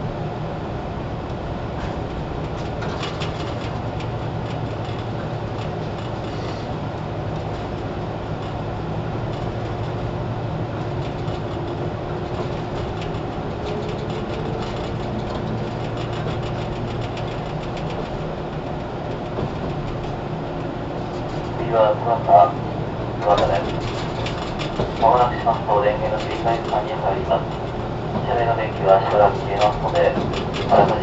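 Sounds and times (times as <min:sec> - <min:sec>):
train motors rumbling: 0:00.0 - 0:31.0
wheel clicks over rail joints: 0:01.8 - 0:21.6, 0:23.2 - 0:31.0.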